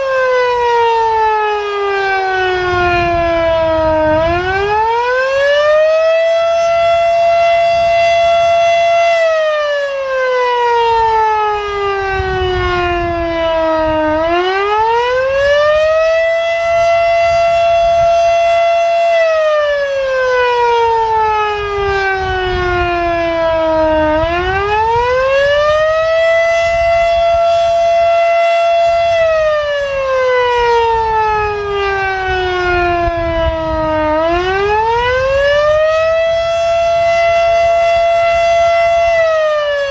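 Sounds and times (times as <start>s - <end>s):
rising and falling warning siren: 0.0s - 39.9s.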